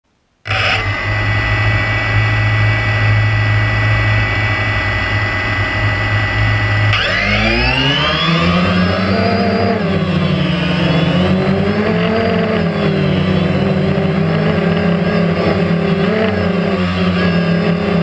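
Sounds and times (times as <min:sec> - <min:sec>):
drone electric hum: 0:00.4 - 0:18.0
drone motors whining: 0:00.4 - 0:18.0.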